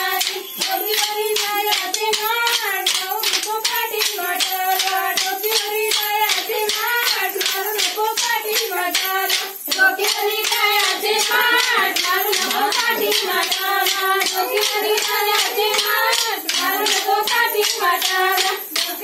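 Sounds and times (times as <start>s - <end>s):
women singing: 0.0s - 19.0s
wooden sticks clacking: 0.2s - 19.0s.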